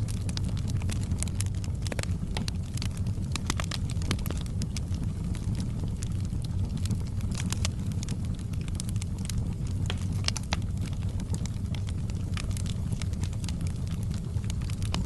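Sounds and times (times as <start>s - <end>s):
low rumble: 0.0s - 15.0s
wood fire crackling and popping: 0.0s - 15.0s.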